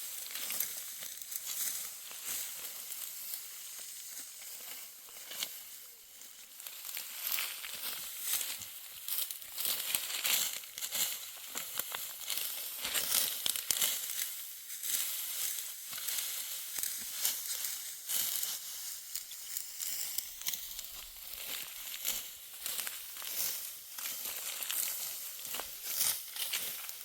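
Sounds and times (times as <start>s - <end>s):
sickle reaping dry wheat: 0.0s - 27.0s.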